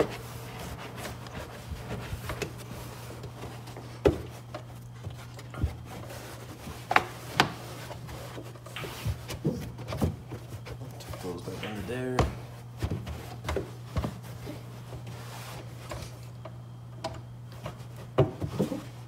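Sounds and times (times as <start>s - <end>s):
fabric panels rubbing and scuffing: 0.0s - 16.3s
steady low hum: 0.0s - 19.0s.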